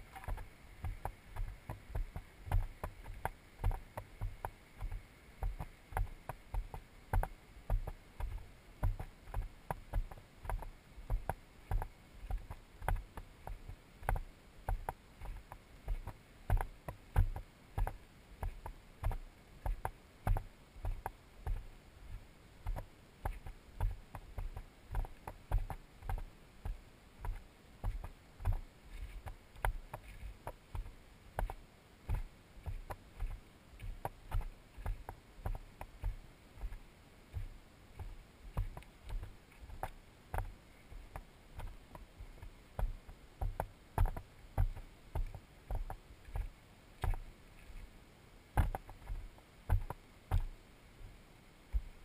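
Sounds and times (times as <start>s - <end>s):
footsteps on gravel trail: 0.0s - 47.9s.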